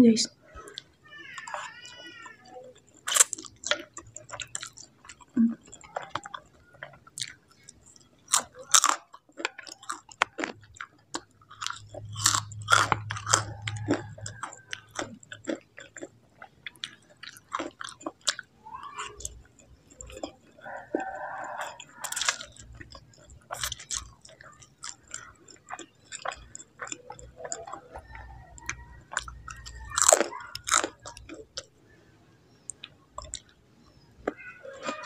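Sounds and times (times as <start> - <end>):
person chewing noodles: 0.4 - 31.9, 32.5 - 35.0.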